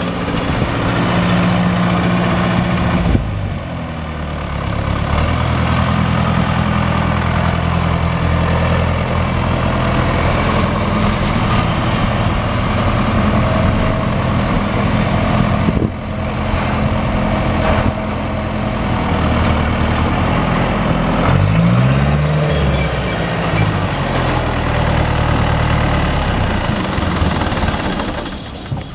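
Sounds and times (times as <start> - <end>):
diesel tractor engine running: 0.0 - 28.9.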